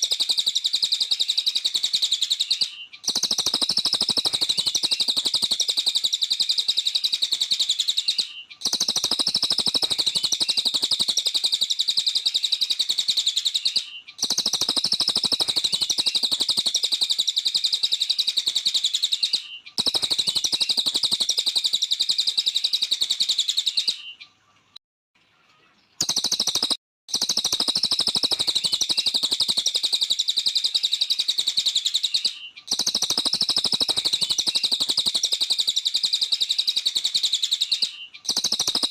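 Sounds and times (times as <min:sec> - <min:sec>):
songbird chattering song: 0:00.0 - 0:38.9.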